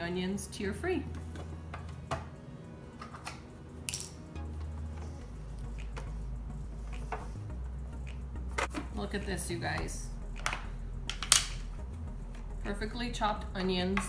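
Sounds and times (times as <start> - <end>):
background music with bass: 0.0 - 14.0.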